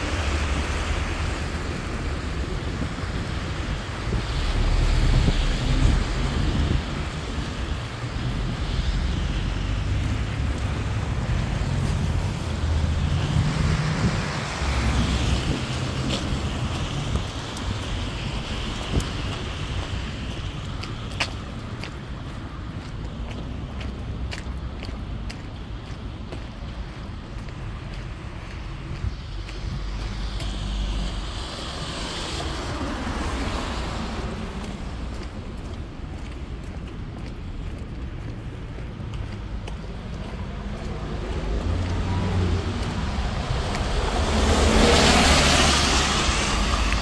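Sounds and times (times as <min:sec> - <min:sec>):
sleet and rain on pavement: 0:00.0 - 0:47.0
tyres hissing on wet road: 0:00.0 - 0:47.0
wind buffeting microphone: 0:00.0 - 0:47.0.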